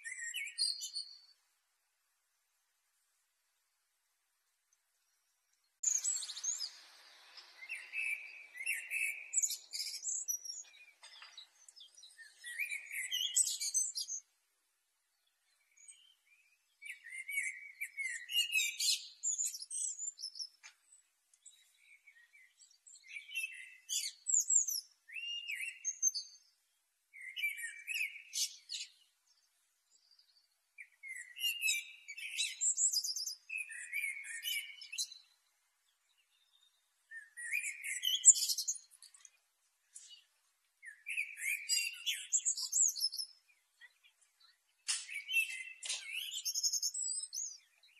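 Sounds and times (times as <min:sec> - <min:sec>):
blackbird singing: 0:00.0 - 0:01.4, 0:05.8 - 0:14.3, 0:15.1 - 0:47.9.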